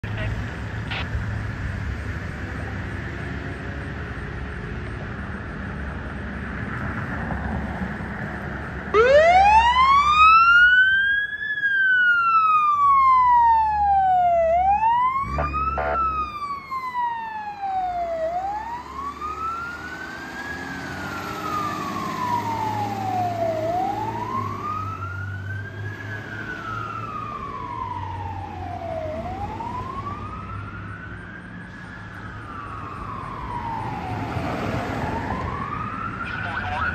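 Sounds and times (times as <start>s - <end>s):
truck engine rumbling: 0.0s - 36.9s
fire engine siren wailing: 7.0s - 36.9s.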